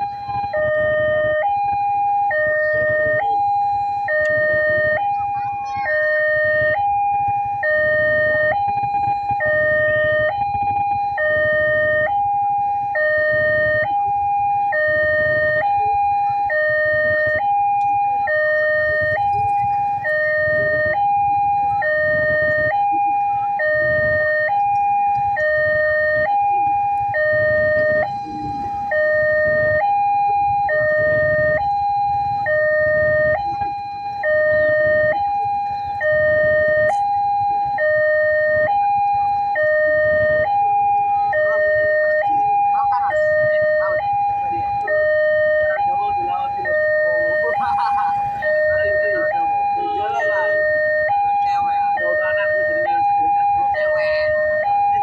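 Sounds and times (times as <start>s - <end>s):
railroad crossing two-tone alarm: 0.0s - 55.0s.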